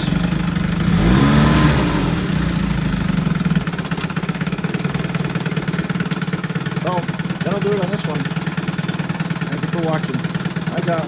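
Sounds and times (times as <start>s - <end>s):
outboard motor revving and idling: 0.0s - 11.0s.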